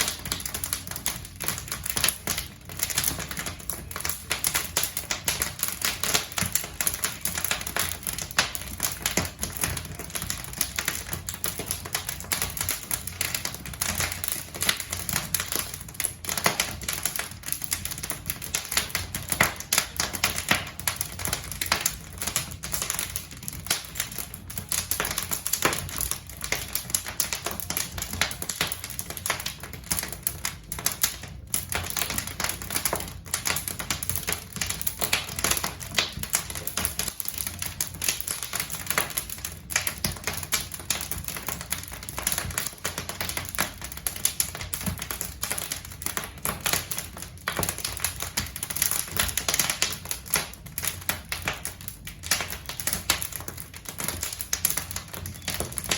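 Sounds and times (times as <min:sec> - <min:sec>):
fire crackling and popping: 0:00.0 - 0:55.9.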